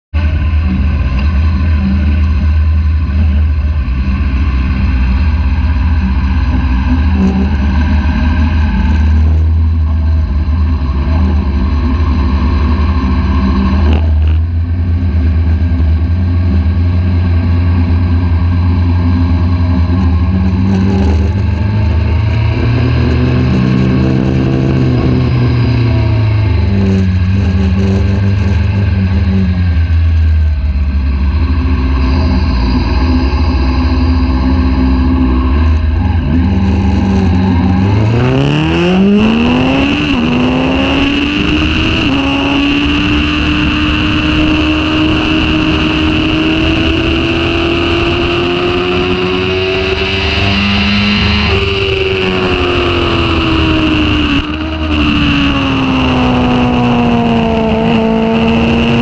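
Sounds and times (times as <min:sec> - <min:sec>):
motorcycle engine at low revs: 0:00.0 - 0:59.0.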